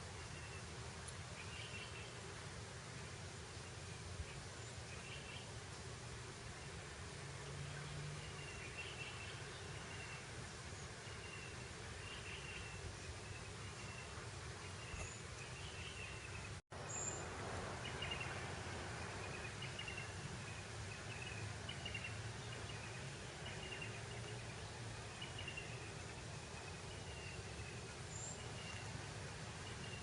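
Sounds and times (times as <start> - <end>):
wind hiss: 0.0 - 30.0.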